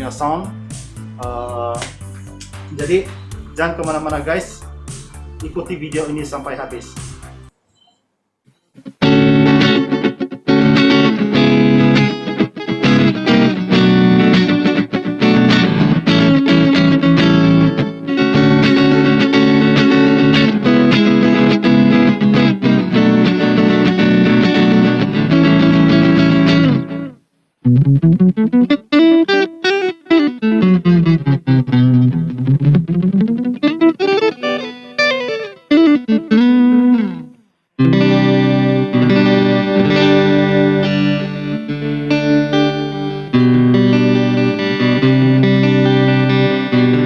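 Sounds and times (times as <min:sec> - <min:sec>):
electric guitar chords: 0:00.0 - 0:07.6, 0:08.8 - 0:47.0
sliding single-note guitar line: 0:08.8 - 0:47.0.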